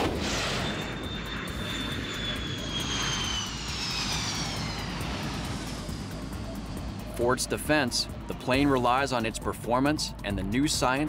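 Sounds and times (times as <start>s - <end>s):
jet engines rushing and whining: 0.0s - 11.0s.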